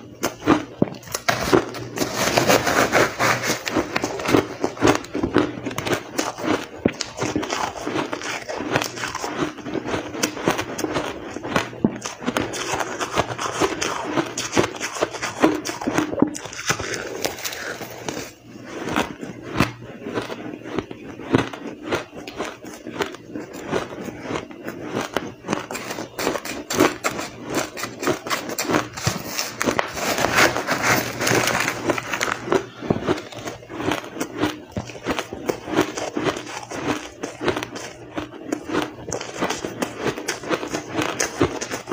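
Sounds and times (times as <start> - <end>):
chewing crushed ice: 0.0 - 41.9.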